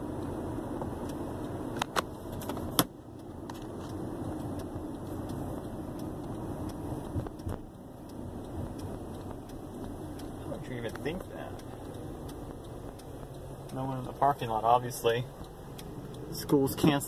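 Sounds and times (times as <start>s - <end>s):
car road and engine rumble: 0.0s - 17.0s
sharp clicks and rattles: 0.2s - 17.0s.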